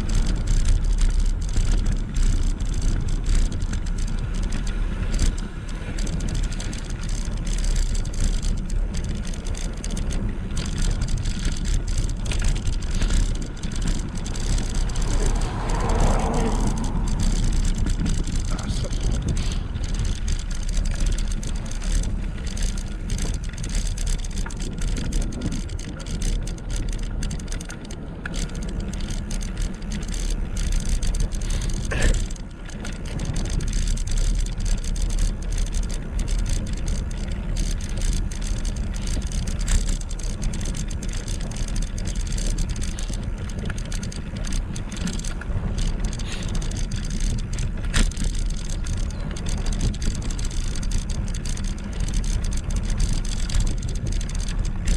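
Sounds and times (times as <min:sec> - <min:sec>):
bike tyre noise: 0:00.0 - 0:54.9
wind rushing over microphone: 0:00.0 - 0:54.9.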